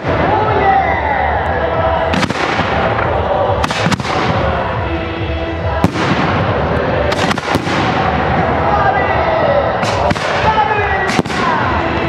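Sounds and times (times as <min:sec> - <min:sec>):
continuous fireworks din: 0:00.0 - 0:12.0.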